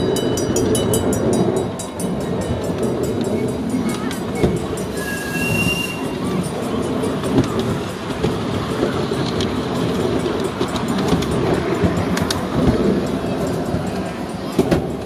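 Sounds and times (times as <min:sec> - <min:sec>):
model train rumbling on track: 0:00.0 - 0:15.0
wheels clicking on rails: 0:00.0 - 0:15.0.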